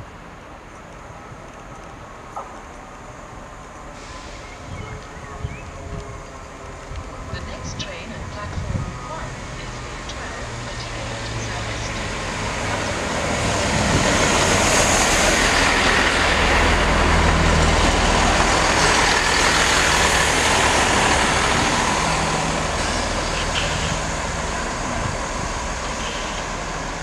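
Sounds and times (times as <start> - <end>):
diesel train engine hum: 0.0 - 27.0.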